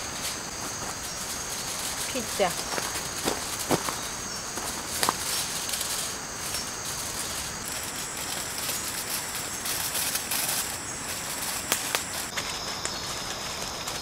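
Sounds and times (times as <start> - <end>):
even hiss: 0.0 - 14.0
high-pitched insect song: 0.0 - 14.0.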